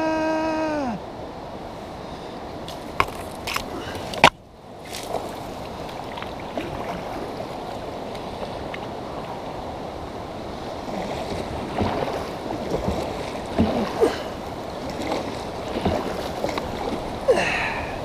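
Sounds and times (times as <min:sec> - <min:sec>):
rushing creek water: 0:00.0 - 0:18.0
paddle splashing water: 0:02.1 - 0:18.0.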